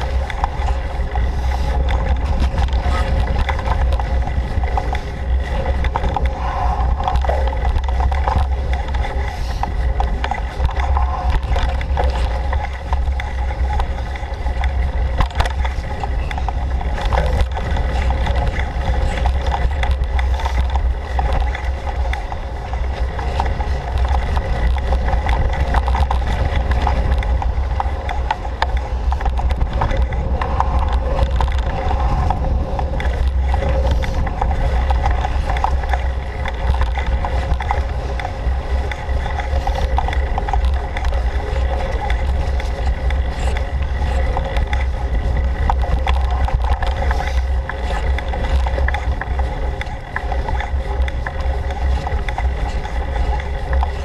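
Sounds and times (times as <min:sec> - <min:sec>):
bike rattling: 0:00.0 - 0:54.0
bike tyre noise: 0:00.0 - 0:54.0
wind rumble on microphone: 0:00.0 - 0:54.0.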